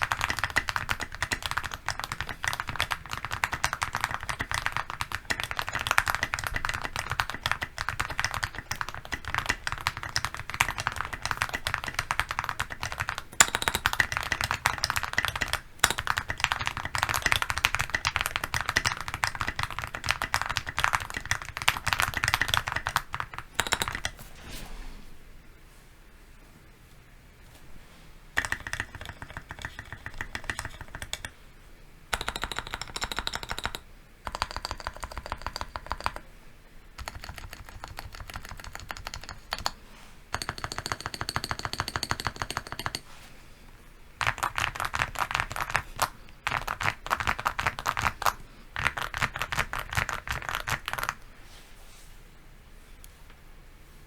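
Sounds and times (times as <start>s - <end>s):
mechanical keyboard typing: 0.0s - 24.2s, 28.4s - 31.4s, 32.2s - 36.2s, 37.0s - 43.0s, 44.2s - 51.2s.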